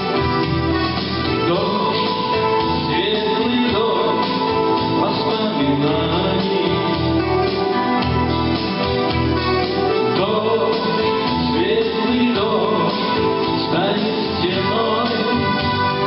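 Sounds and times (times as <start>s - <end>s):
bass notes: 0.0s - 16.0s
held chords: 0.0s - 16.0s.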